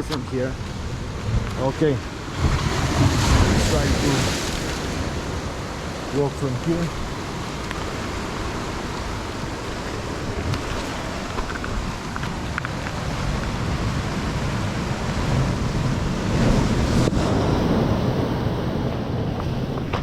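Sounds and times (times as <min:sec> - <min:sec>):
surf washing against rocks: 0:00.0 - 0:20.0
wind on microphone: 0:00.0 - 0:20.0.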